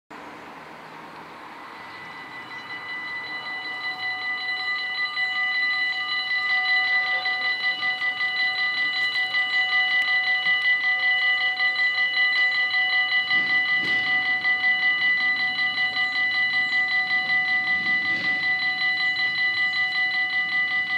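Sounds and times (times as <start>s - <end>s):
level crossing warning bells: 0.8s - 20.9s.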